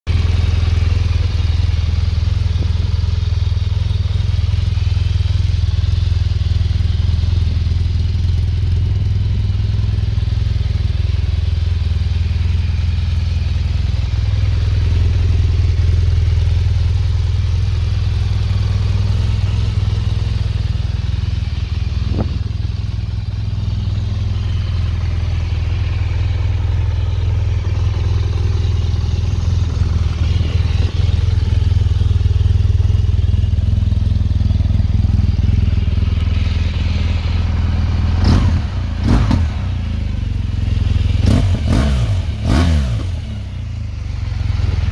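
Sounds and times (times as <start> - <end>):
motorcycle engine idling: 0.1 - 44.9.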